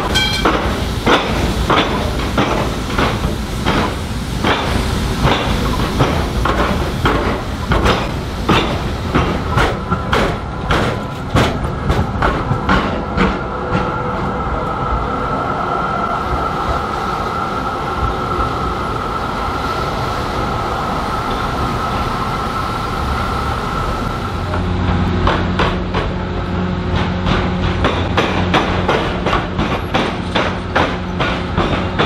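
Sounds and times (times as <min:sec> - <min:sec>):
tram wheels clunking over track gaps: 0:00.0 - 0:14.9, 0:15.7 - 0:32.0
tram high whine: 0:00.0 - 0:32.0.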